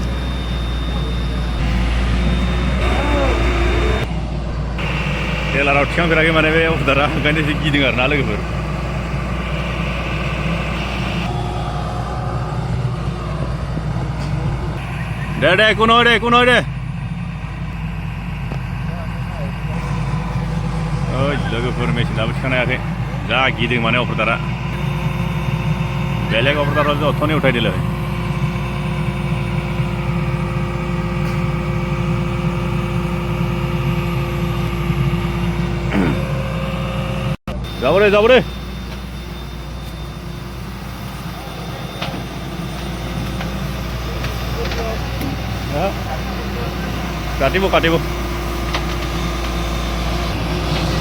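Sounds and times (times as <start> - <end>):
diesel engine rumbling: 0.0 - 51.0.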